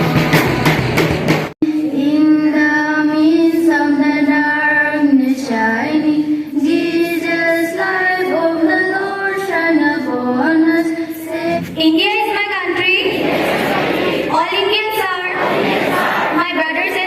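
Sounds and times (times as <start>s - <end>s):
children singing slow melody: 1.6s - 11.8s, 12.8s - 16.4s.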